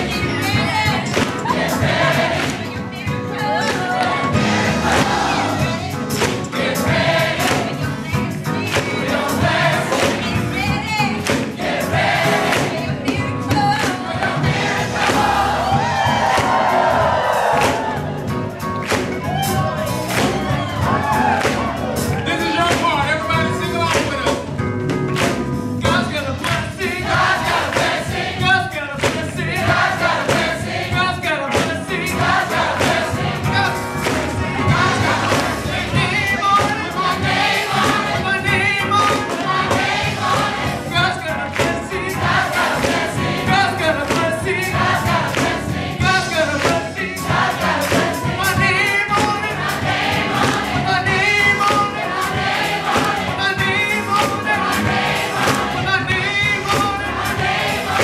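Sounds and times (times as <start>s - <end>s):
gospel choir singing: 0.0s - 24.6s, 25.8s - 58.0s
rhythmic hand clapping: 0.0s - 58.0s.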